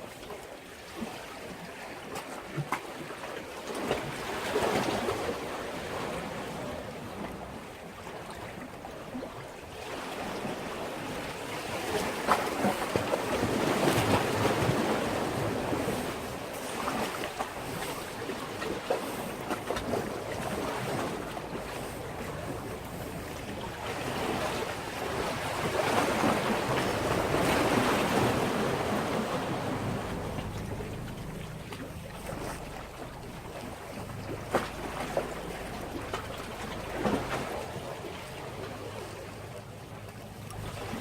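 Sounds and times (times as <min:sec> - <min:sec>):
sea waves against a breakwater: 0:00.0 - 0:41.0.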